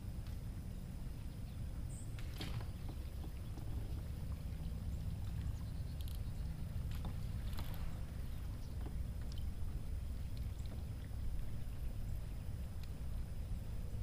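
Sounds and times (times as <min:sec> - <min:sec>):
low water rumble: 0:00.0 - 0:14.0.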